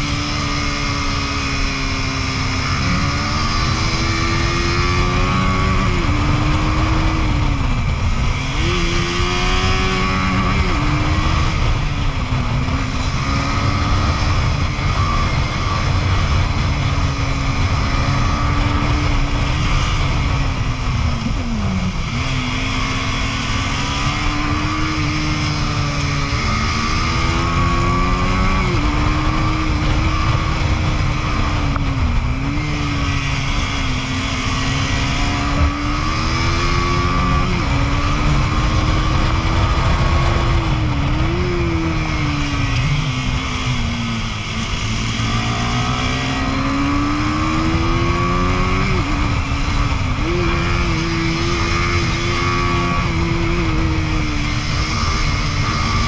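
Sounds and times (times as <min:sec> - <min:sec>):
motorcycle engine at high revs: 0:00.0 - 0:56.0
wind rush on microphone: 0:00.0 - 0:56.0.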